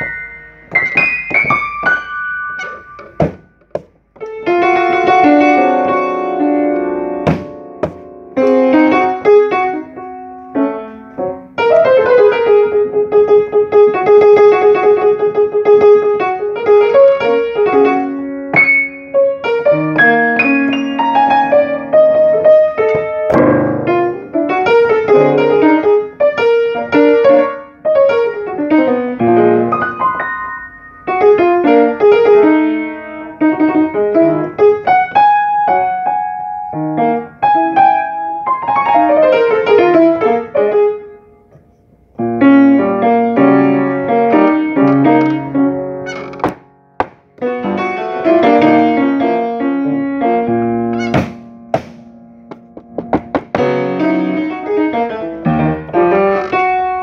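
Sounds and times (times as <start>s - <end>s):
solo piano: 0.0s - 57.0s.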